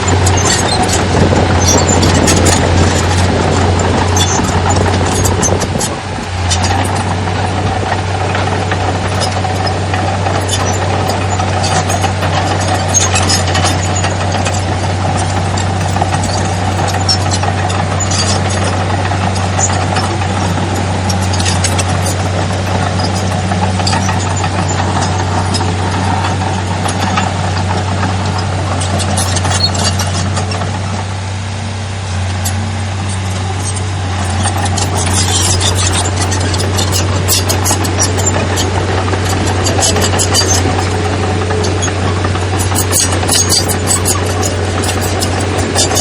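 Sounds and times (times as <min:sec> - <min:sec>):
metallic clanks and rattles: 0:00.0 - 0:31.0, 0:32.2 - 0:46.0
heavy diesel engine running: 0:00.0 - 0:46.0.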